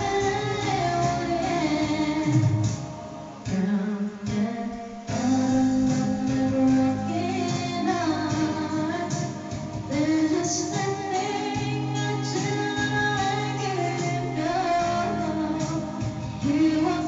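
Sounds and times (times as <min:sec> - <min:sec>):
backing track music: 0:00.0 - 0:17.0
woman singing into microphone: 0:00.0 - 0:17.0.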